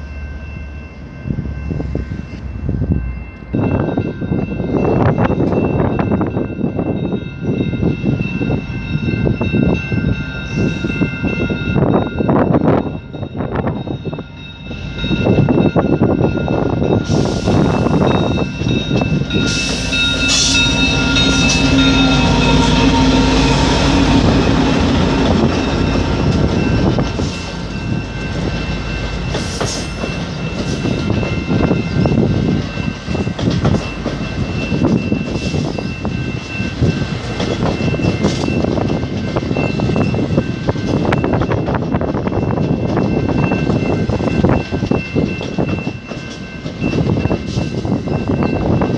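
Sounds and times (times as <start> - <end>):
high-pitched rail tones: 0.0 - 48.9
train clanks: 0.0 - 48.9
train rumbling on rails: 0.0 - 48.9.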